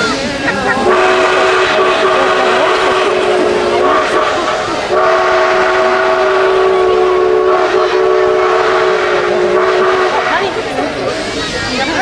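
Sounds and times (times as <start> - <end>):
steam locomotive whistle: 0.8 - 11.4.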